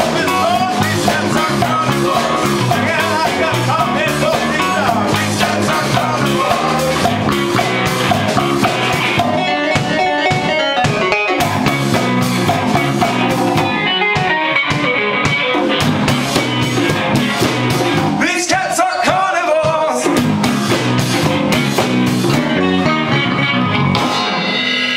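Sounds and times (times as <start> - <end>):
funk band playing live: 0.0 - 24.9.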